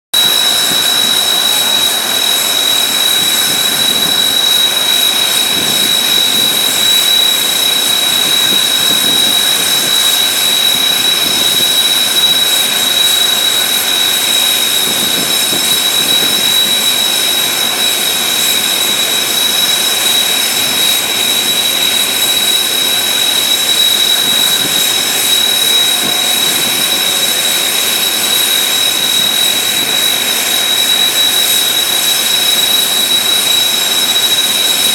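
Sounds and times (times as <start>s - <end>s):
jet engines idling: 0.1s - 34.9s.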